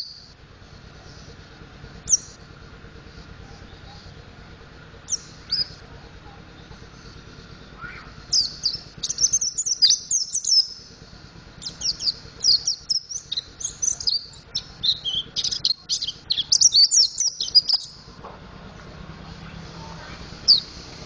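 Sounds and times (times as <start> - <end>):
bird twittering: 0.0 - 0.4, 1.0 - 18.2, 19.1 - 21.0.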